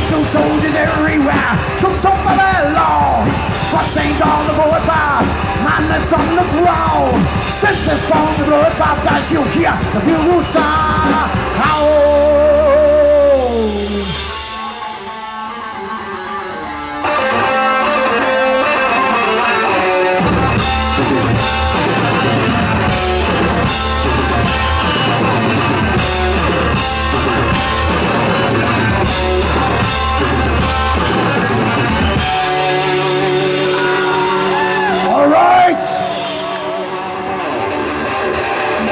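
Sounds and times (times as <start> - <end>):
bass guitar: 0.0 - 38.9
drums: 0.0 - 38.9
electric guitar: 0.0 - 38.9.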